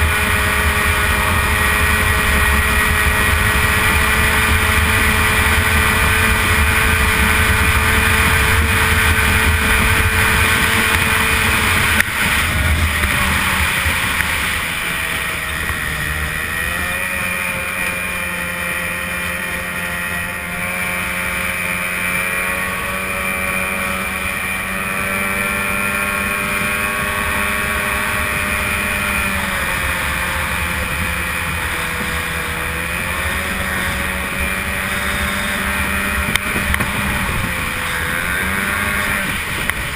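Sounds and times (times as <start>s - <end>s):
outboard engine running hard: 0.0s - 39.9s
water noise from hull: 0.0s - 39.9s.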